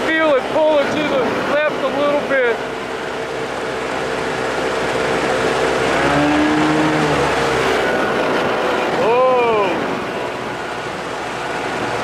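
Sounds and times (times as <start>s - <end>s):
outboard motor running: 0.0s - 12.0s
wind and water rushing: 0.0s - 12.0s.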